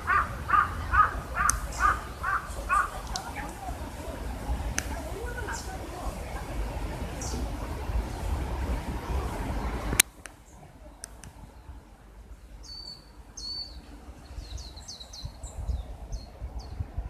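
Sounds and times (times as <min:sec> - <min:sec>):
songbird chirping: 0:00.0 - 0:08.3, 0:09.6 - 0:16.9.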